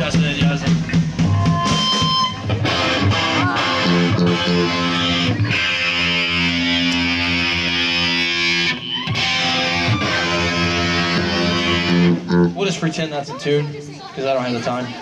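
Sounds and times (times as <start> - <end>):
electric guitar chords: 0.0 - 12.8.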